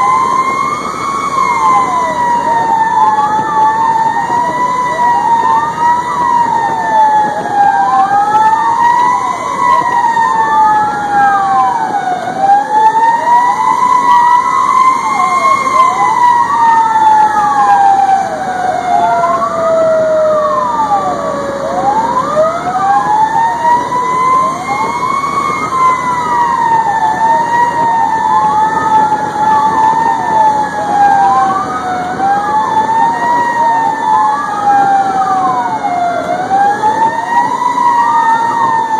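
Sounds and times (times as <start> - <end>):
engine and road noise: 0.0 - 38.9
fast sweeping siren: 0.0 - 38.9
slow wailing siren: 0.0 - 38.9.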